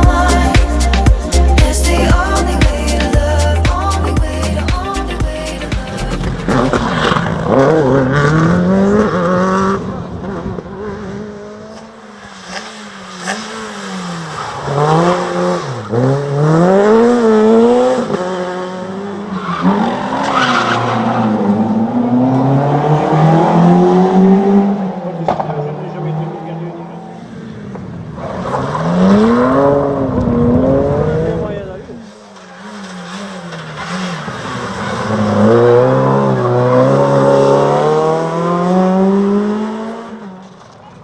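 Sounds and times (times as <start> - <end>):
rally car engines revving: 0.0 - 41.0.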